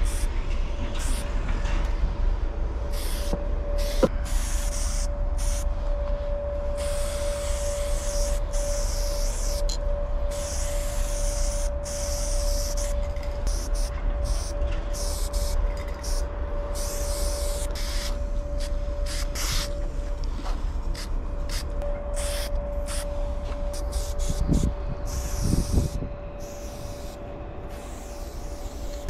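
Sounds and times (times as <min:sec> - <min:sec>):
spray paint can hissing: 0:00.0 - 0:00.3, 0:01.0 - 0:01.2, 0:02.9 - 0:05.7, 0:06.8 - 0:19.8, 0:20.9 - 0:23.1, 0:23.7 - 0:29.0
steady hum: 0:00.0 - 0:29.0.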